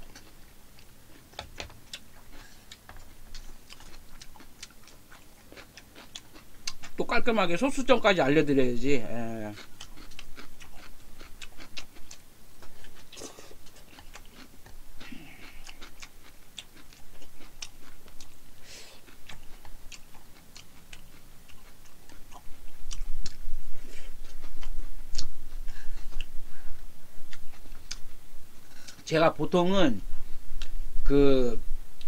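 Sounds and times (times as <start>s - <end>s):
person chewing: 0.0s - 7.0s, 9.2s - 29.1s, 30.6s - 30.8s.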